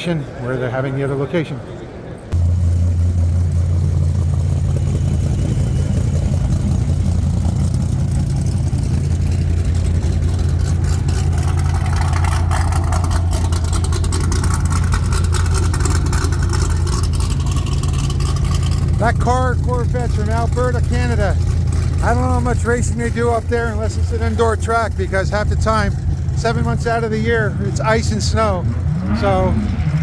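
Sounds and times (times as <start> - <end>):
vehicle engine running: 2.3 - 30.0.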